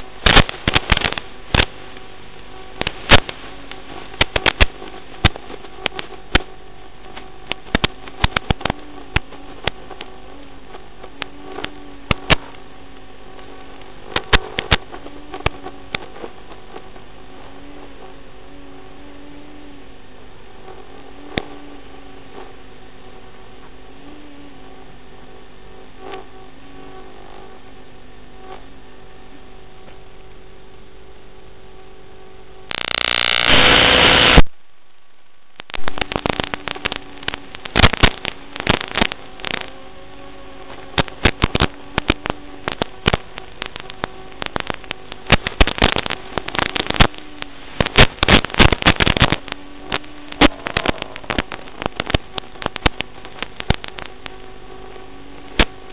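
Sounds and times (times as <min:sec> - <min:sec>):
radio static hiss and hum: 0:00.0 - 0:55.9
static crackling and popping: 0:00.0 - 0:55.9
white-noise static burst: 0:00.0 - 0:55.9.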